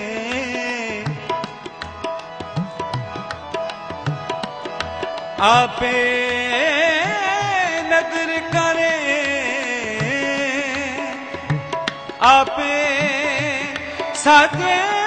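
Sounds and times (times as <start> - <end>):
harmonium chords: 0.0 - 15.0
tabla playing: 0.0 - 15.0.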